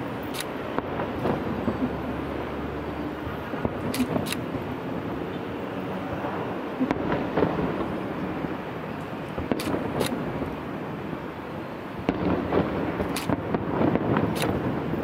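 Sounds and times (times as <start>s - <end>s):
distant fireworks bangs: 0.0s - 5.3s, 6.0s - 15.0s
steady background noise: 0.0s - 15.0s.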